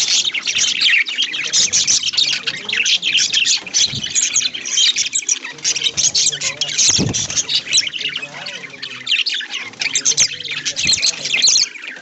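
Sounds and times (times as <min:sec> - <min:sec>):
budgies chirping and chattering: 0:00.0 - 0:12.0.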